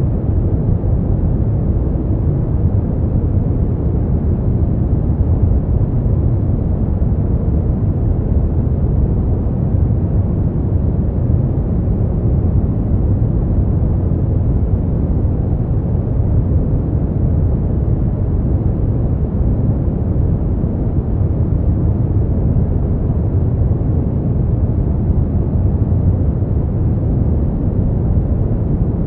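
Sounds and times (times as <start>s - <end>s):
dark muffled white noise: 0.0s - 29.0s.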